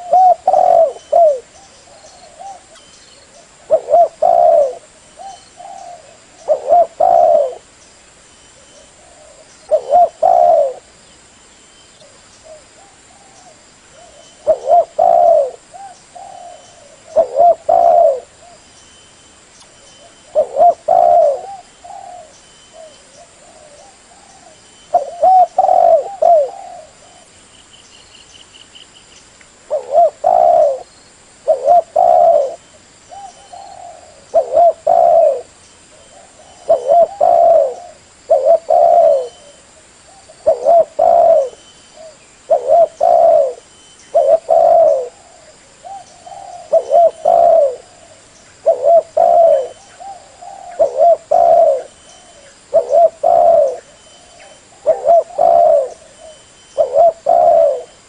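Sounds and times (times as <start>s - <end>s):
dove cooing: 0.0s - 7.7s, 8.6s - 10.9s, 12.0s - 18.7s, 20.0s - 27.3s, 29.7s - 58.0s.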